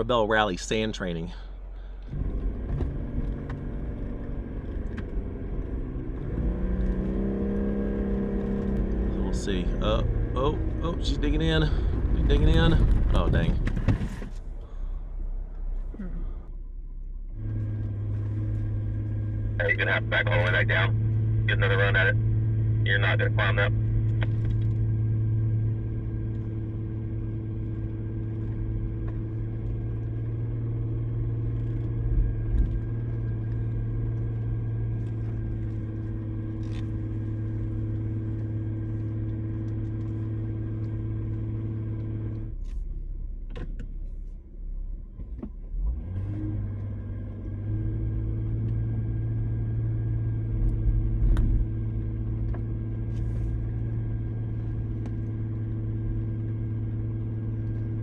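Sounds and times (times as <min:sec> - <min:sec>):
vehicle engine idling: 0:00.0 - 0:06.2, 0:07.5 - 0:45.8, 0:48.1 - 0:58.0.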